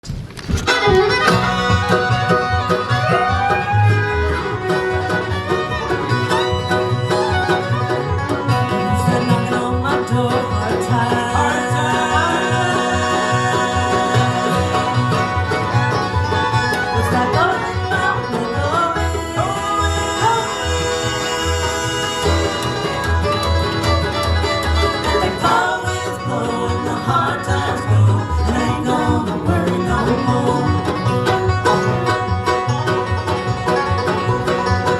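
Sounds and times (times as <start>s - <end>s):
guitar: 0.0s - 34.9s
plucked upright bass: 0.1s - 34.9s
banjo picking: 0.4s - 34.9s.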